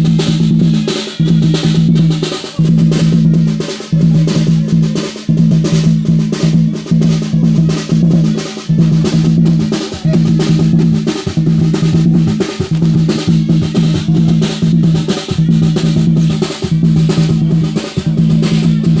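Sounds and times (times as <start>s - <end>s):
drums in fast rolling rhythm: 0.0s - 19.0s.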